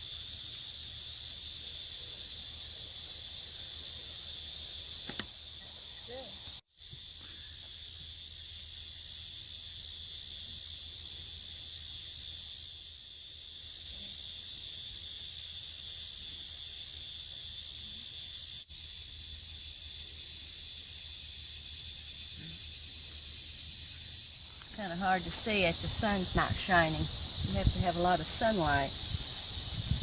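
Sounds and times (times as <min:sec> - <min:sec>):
insects buzzing and trilling: 0:00.0 - 0:30.0.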